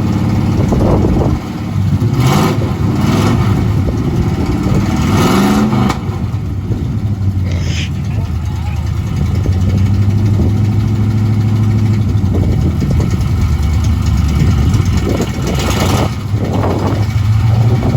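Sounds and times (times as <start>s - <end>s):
pickup engine idling: 0.0s - 17.9s.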